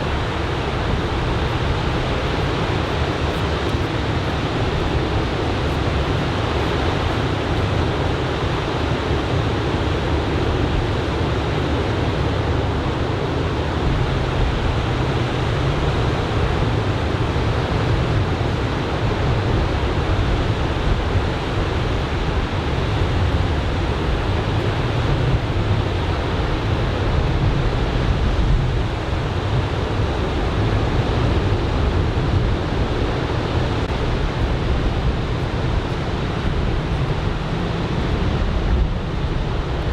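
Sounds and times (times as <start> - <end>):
deep low surf rumble: 0.0 - 39.9
waves breaking on beach: 0.0 - 39.9.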